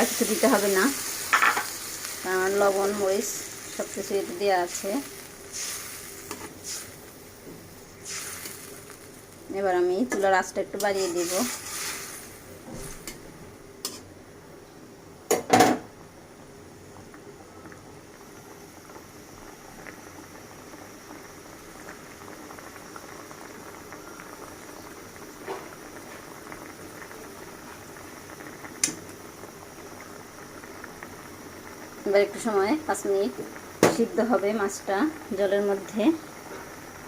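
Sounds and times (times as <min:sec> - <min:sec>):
gravy bubbling in a pan: 0:00.0 - 0:14.2, 0:16.2 - 0:37.0.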